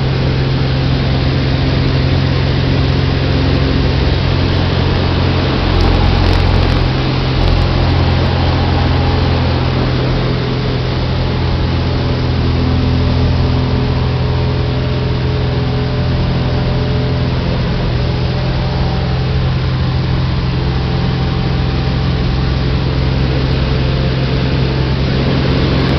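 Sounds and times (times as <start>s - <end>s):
wind noise: 0.0s - 18.8s, 19.5s - 25.9s
aircraft engine drone: 0.0s - 25.9s.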